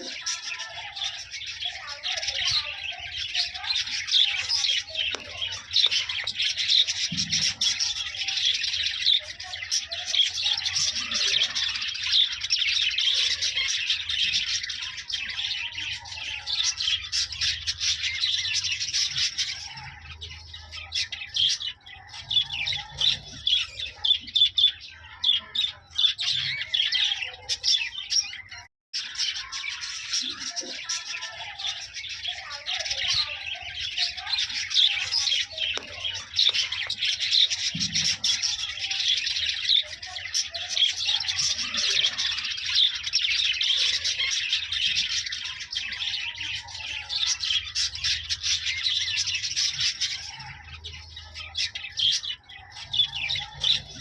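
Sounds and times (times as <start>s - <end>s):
parrots chirping and chattering: 0.0s - 54.0s.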